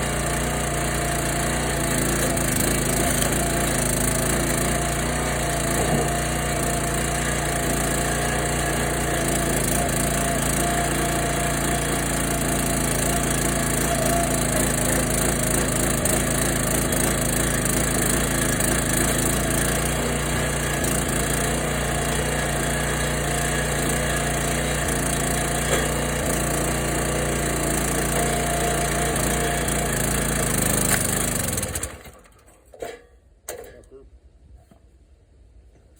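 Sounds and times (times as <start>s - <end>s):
log splitter engine running: 0.0s - 32.6s.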